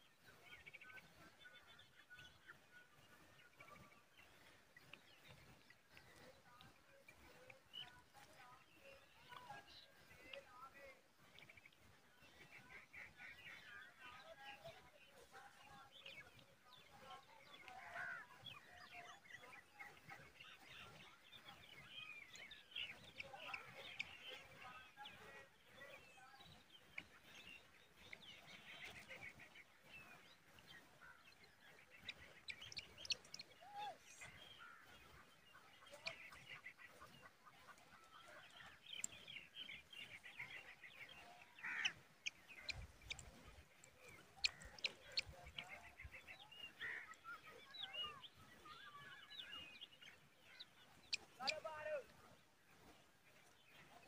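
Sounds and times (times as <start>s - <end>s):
faint chattering bird calls: 0.0s - 54.0s.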